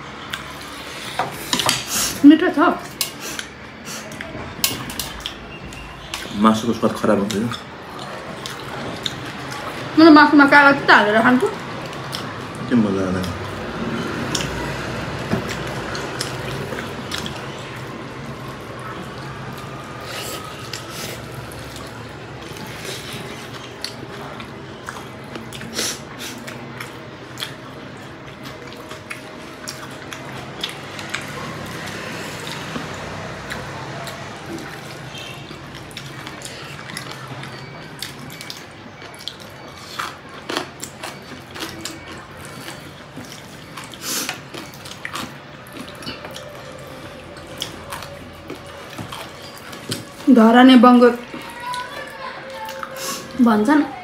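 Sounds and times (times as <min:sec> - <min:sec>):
wet chewing and mouth clicks: 0:00.2 - 0:02.2, 0:02.8 - 0:10.0, 0:11.6 - 0:50.3, 0:51.1 - 0:53.4
fingers mixing food on metal plates: 0:00.2 - 0:54.0.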